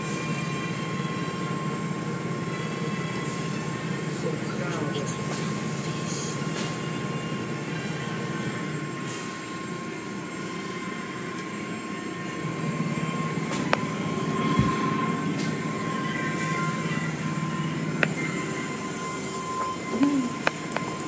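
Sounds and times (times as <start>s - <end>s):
thin steady whine: 0.0s - 21.0s.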